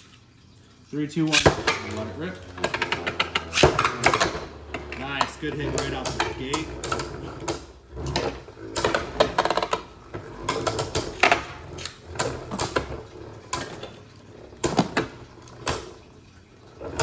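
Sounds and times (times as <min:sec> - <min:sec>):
spinning tops clacking: 0:01.3 - 0:16.1.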